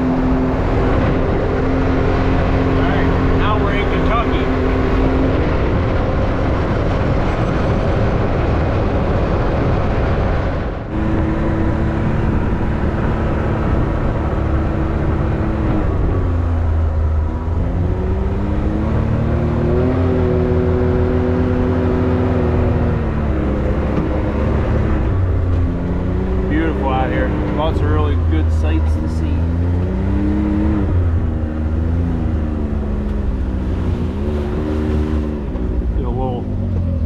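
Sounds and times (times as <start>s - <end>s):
off-road vehicle engine running: 0.0s - 37.0s.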